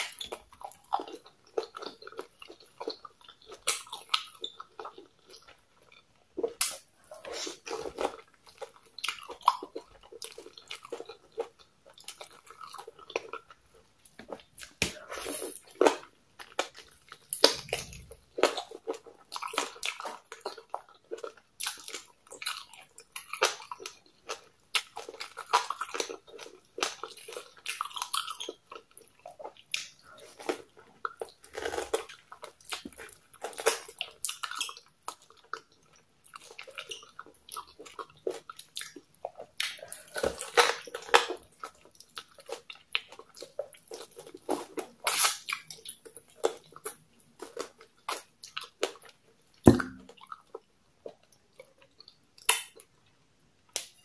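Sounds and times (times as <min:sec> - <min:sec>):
wet chewing and smacking: 0:00.0 - 0:53.0.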